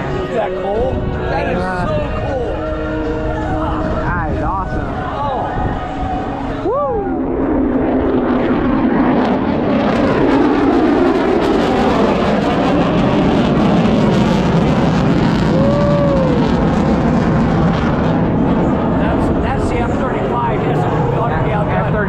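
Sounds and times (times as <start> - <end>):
aircraft roar flying by: 0.0 - 22.0.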